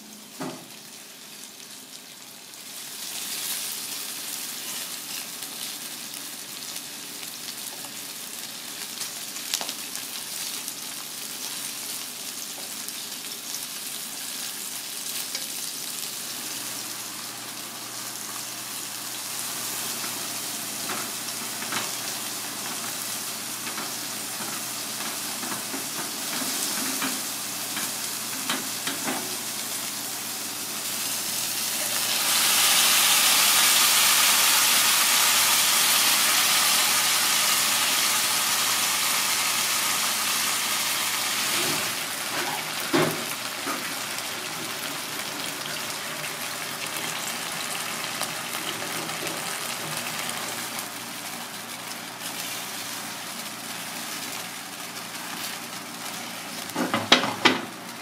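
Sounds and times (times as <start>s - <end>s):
sauce sizzling in a frying pan: 0.0s - 58.0s.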